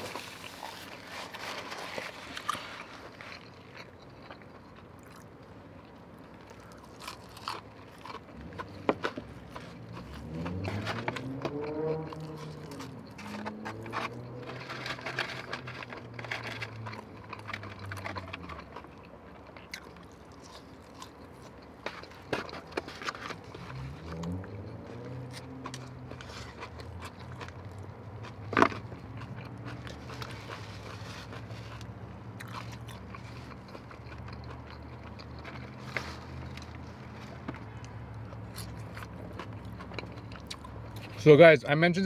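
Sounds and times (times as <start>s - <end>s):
chewing and crunching: 0.0s - 41.8s.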